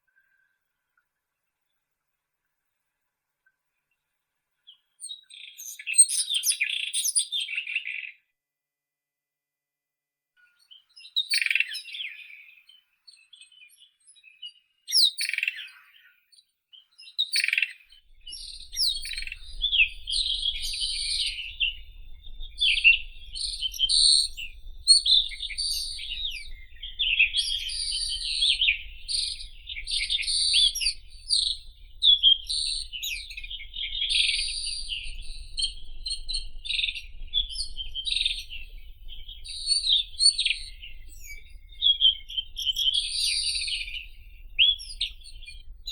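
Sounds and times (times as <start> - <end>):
bird singing chirps and warbles: 3.8 - 8.2, 10.4 - 45.9.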